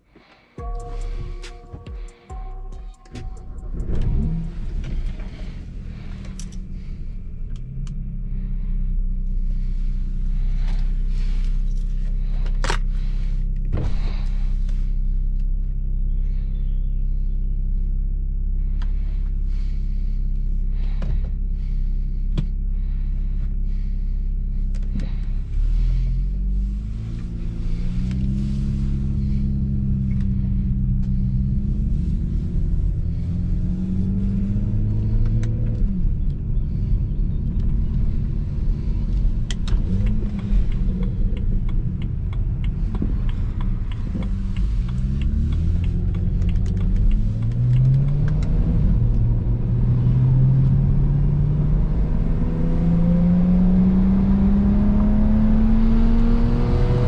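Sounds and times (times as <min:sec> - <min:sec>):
exhaust cracks: 0:00.0 - 0:53.0
car engine cruising: 0:00.0 - 0:57.0.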